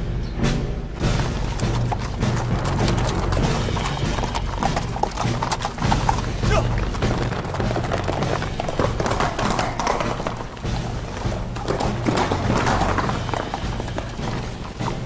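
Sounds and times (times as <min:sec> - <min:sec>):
orchestral film music: 0:00.0 - 0:15.0
horses' hoofbeats: 0:00.9 - 0:15.0.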